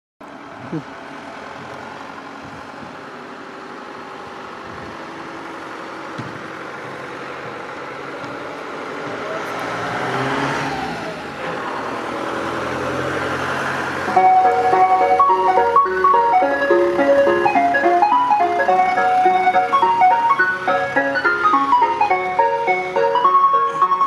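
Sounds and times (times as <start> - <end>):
van engine driving: 0.2 - 24.0.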